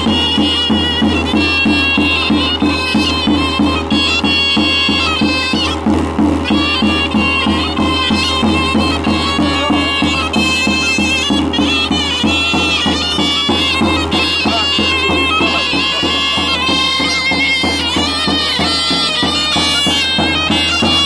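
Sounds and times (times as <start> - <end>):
large drum beaten steadily: 0.0 - 21.0
shawms playing folk tune: 0.0 - 21.0.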